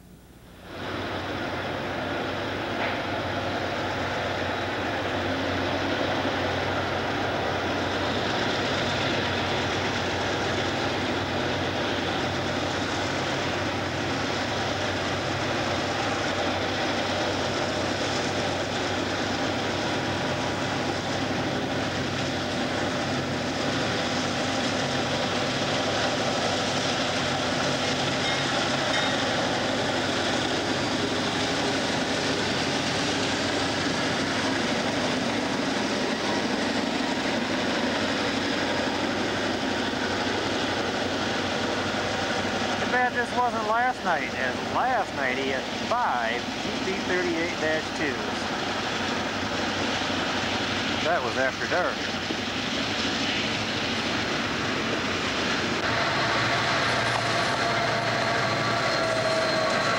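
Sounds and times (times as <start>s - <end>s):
locomotive engines humming: 0.0s - 59.9s
wheels rumbling on rail: 0.0s - 59.9s.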